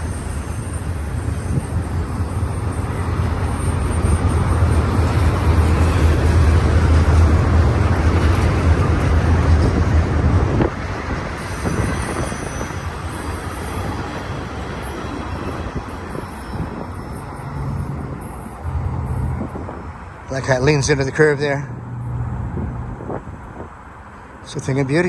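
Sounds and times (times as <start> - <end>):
high-pitched wheel squeal: 0.0 - 9.9, 10.6 - 22.8
freight train cars rumbling: 0.0 - 25.0.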